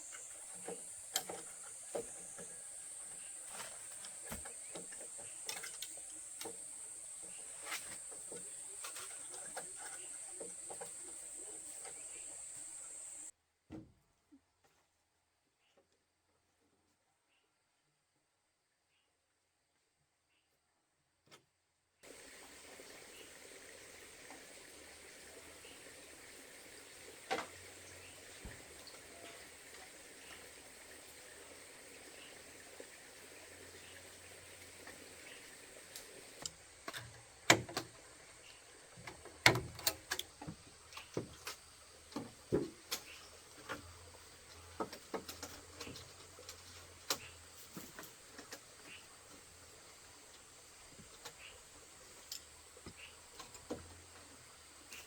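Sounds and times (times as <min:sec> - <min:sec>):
faint background hiss: 0:00.0 - 0:13.4, 0:22.0 - 0:55.0.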